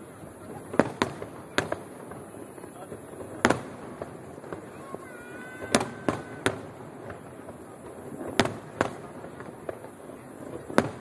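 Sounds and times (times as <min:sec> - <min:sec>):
fireworks shells bursting: 0:00.0 - 0:11.0.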